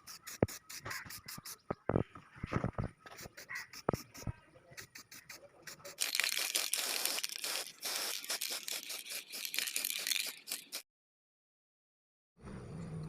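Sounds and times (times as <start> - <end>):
rapid scratchy scraping: 0.0 - 10.8.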